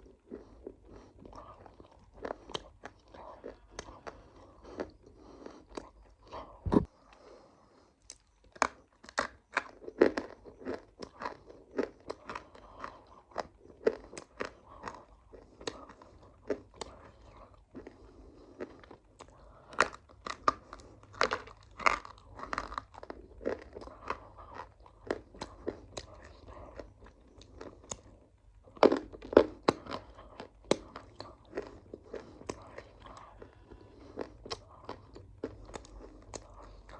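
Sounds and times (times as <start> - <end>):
person chewing crunchy food: 0.0 - 36.9.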